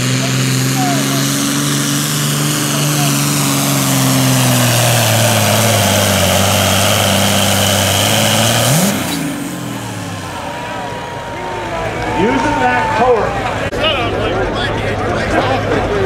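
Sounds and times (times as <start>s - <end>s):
tractor diesel engine revving high: 0.0s - 16.0s.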